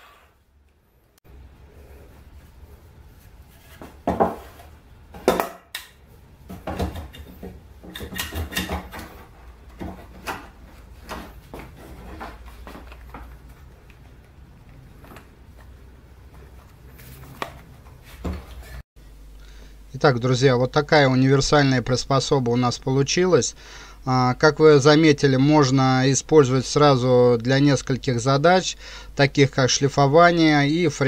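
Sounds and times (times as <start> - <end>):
low steady hum: 0.4 - 31.0.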